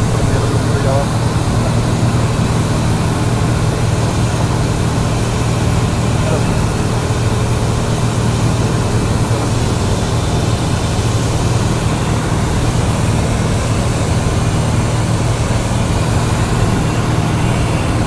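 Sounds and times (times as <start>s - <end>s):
plane engine and propeller droning: 0.0s - 18.0s.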